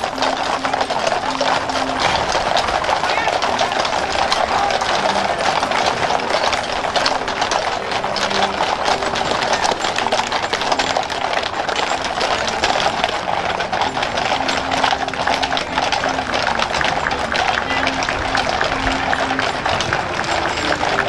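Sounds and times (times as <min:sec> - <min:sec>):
horse hooves clopping on pavement: 0:00.0 - 0:21.0.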